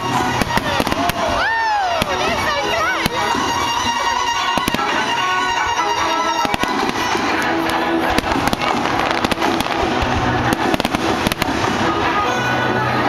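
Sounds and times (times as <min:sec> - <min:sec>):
fireworks bursting: 0:00.0 - 0:13.0
music with long held notes: 0:00.0 - 0:13.0.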